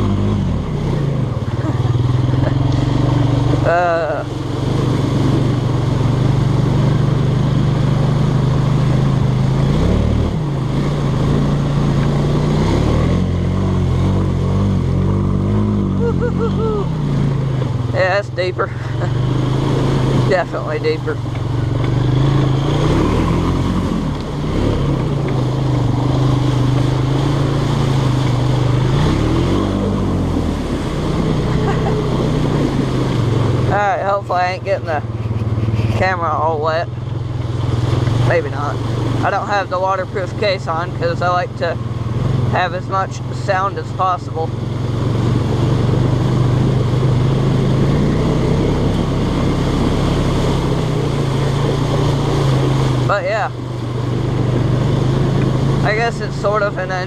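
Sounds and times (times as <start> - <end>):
off-road vehicle engine running: 0.0 - 57.0
water noise: 0.0 - 57.0.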